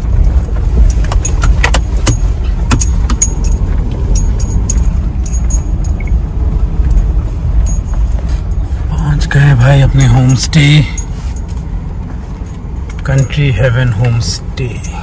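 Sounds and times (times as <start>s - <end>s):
car interior rattling: 0.0s - 15.0s
engine and tyres rumbling: 0.0s - 15.0s.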